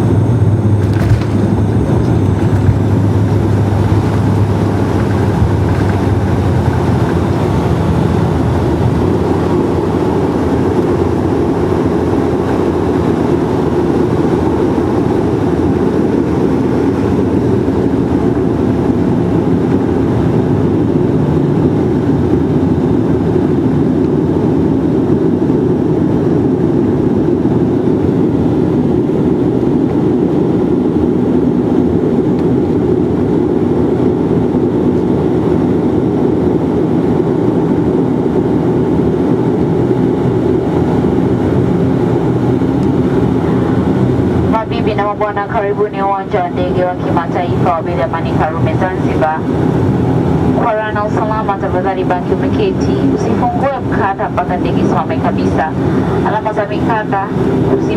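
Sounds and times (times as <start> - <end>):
turboprop engines droning in cabin: 0.0 - 57.9.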